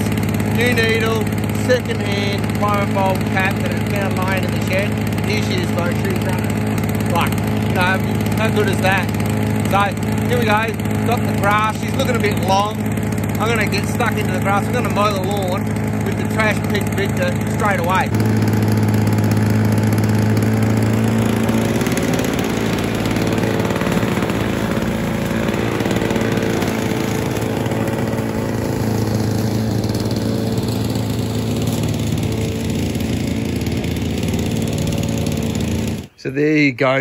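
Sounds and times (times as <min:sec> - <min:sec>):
lawnmower engine cutting grass: 0:00.0 - 0:36.2.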